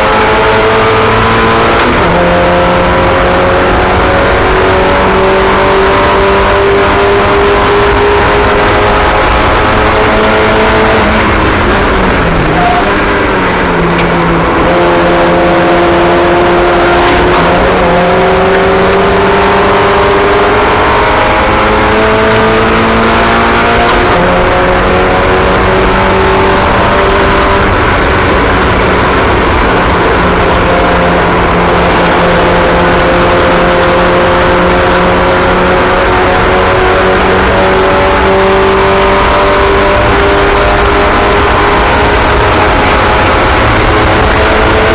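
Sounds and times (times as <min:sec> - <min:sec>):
small race car engines: 0:00.0 - 0:44.9.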